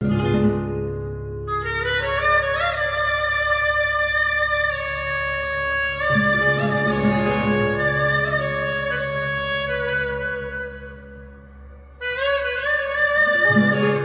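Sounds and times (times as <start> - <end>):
steady low accompaniment: 0.0 - 13.0
slow sustained instrumental melody: 0.0 - 14.0.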